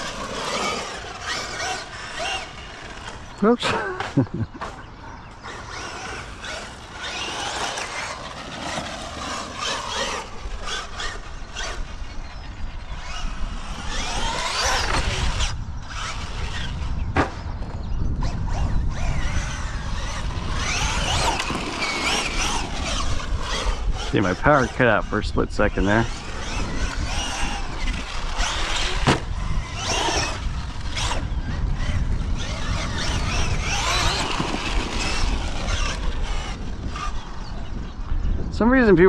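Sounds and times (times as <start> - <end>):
tyres rumbling on dirt: 0.0 - 37.7
rc truck motor whine: 0.0 - 39.0.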